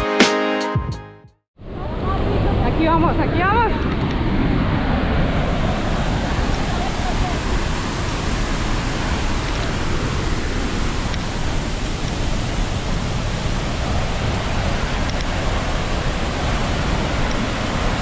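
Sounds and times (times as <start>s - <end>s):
waterfall roaring: 1.7s - 18.0s.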